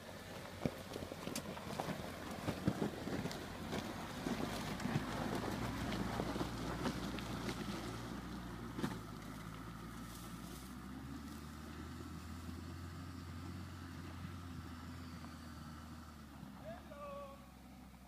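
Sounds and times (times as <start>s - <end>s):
light wind: 0.0s - 18.0s.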